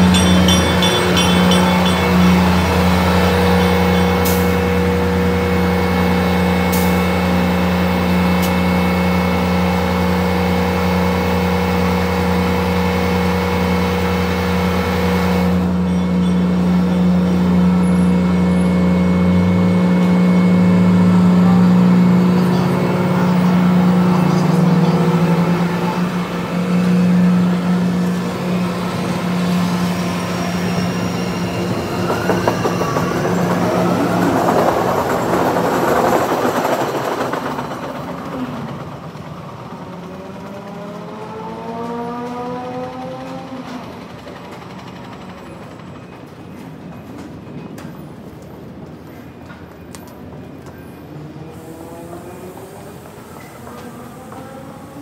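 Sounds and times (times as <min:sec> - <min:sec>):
diesel locomotive engine drone: 0:00.0 - 0:55.0
subway train motor whine: 0:00.0 - 0:55.0.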